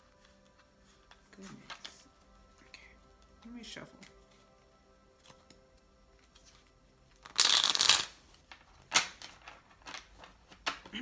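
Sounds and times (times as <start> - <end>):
cards being shuffled: 0.0 - 2.3, 3.1 - 11.0.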